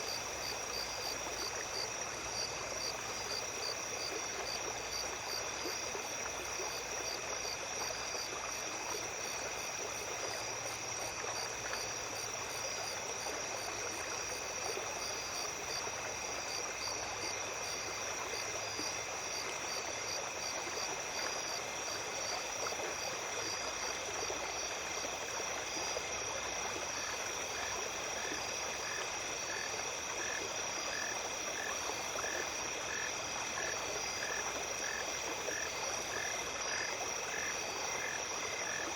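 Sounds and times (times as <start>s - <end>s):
small stream running: 0.0s - 38.9s
insect chirping: 0.1s - 25.1s, 25.7s - 38.9s.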